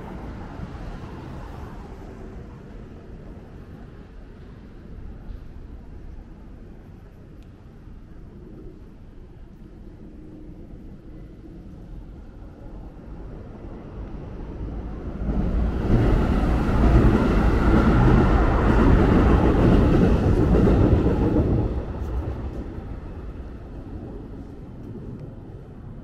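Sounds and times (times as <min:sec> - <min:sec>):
train passing rumble: 0:00.0 - 0:26.0.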